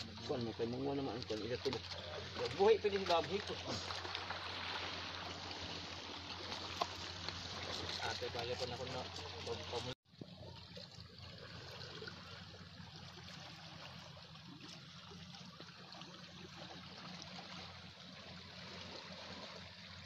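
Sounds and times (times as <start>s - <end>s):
sea water washing over pebbles: 0.0s - 20.0s.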